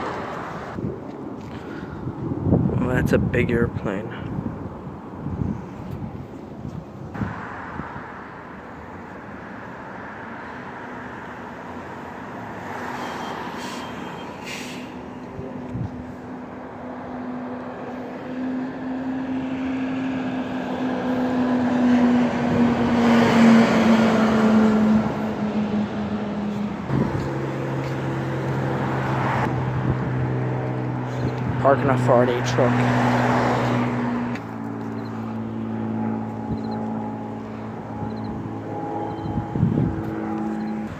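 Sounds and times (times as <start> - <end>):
street traffic passing: 0.0 - 40.9.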